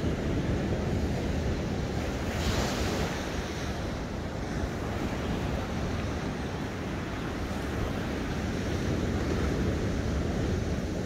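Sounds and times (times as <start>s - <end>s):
sea waves breaking: 0.0s - 11.0s
wind rumbling on microphone: 0.0s - 11.0s.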